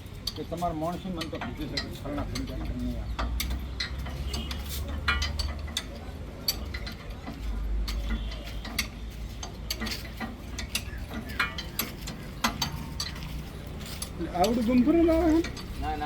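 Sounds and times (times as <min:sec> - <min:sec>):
hand tools clinking on bolts: 0:00.0 - 0:16.0.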